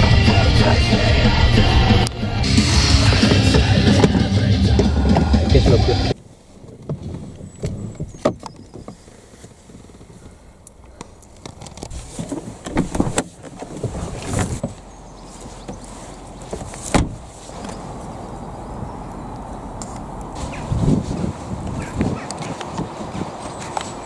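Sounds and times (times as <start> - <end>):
car rumble: 0.0 - 24.0.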